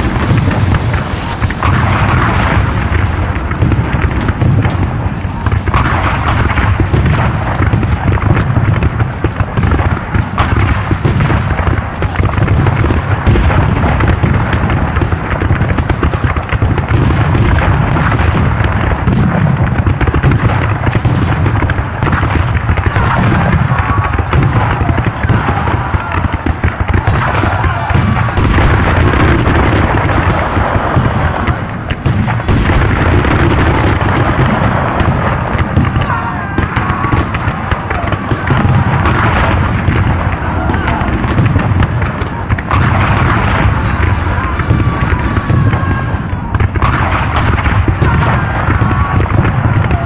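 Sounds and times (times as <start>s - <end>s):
cannon booms and explosions: 0.0s - 50.0s
continuous gunfire: 0.0s - 50.0s.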